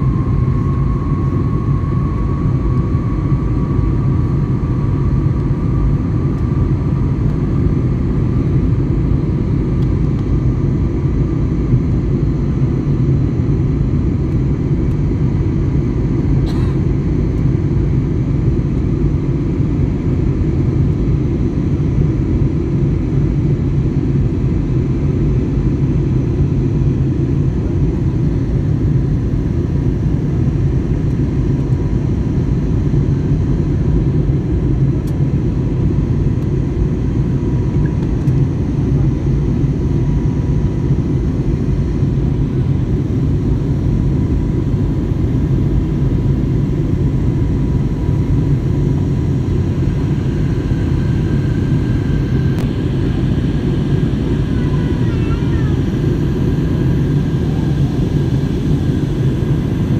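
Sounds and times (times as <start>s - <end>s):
faint high hum: 0.0s - 13.9s, 25.4s - 59.9s
jet engine cabin roar: 0.0s - 59.9s.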